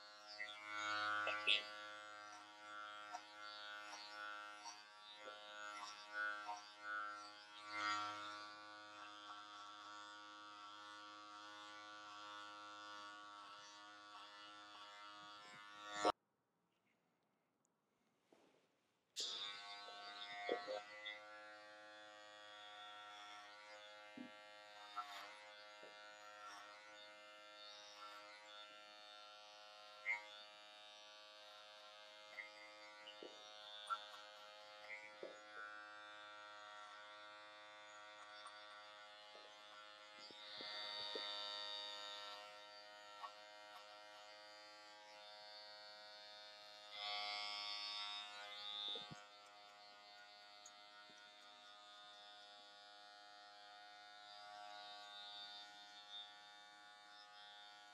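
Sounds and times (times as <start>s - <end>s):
electric hair clippers buzzing: 0.0s - 16.1s, 19.2s - 57.9s.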